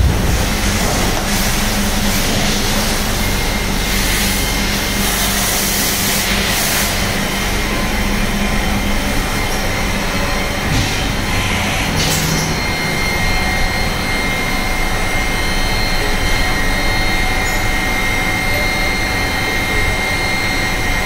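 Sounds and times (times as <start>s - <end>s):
machinery drone: 0.0s - 21.0s
thin high whine: 0.0s - 21.0s.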